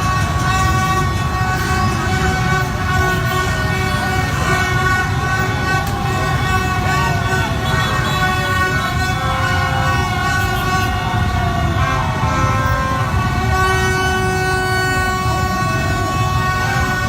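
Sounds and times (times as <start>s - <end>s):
horns and trumpets tooting: 0.0s - 17.0s.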